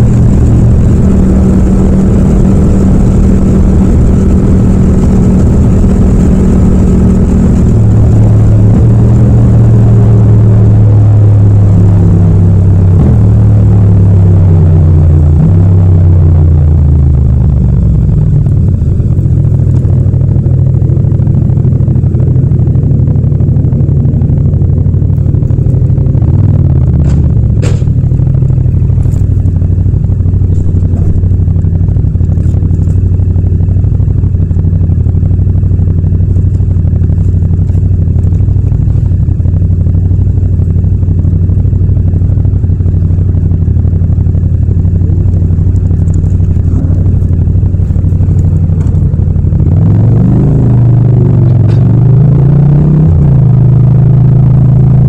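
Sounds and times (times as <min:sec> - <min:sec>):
motorcycle engine idling: 0:00.0 - 0:52.4.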